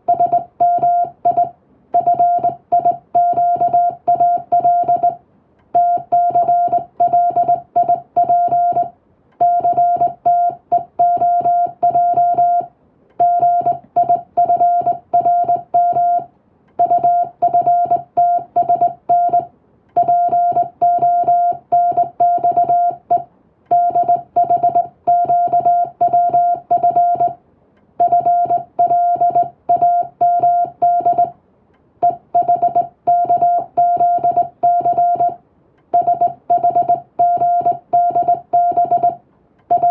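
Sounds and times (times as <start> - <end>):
morse code beeps: 0.0 - 5.2, 5.8 - 27.4, 28.0 - 31.3, 32.0 - 39.9.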